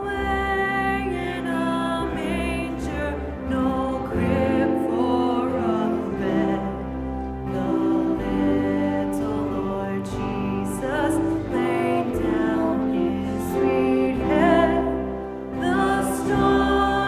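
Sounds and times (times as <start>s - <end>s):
hymn-like singing: 0.0s - 17.0s
instrumental accompaniment: 0.0s - 17.0s.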